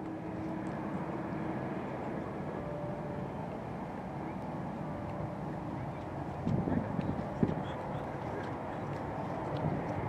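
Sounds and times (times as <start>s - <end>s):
jet engines low rumble: 0.0s - 10.0s.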